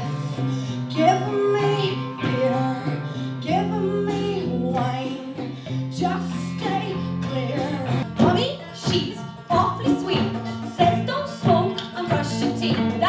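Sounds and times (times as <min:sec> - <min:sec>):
guitar: 0:00.0 - 0:13.0
woman singing: 0:00.0 - 0:13.0.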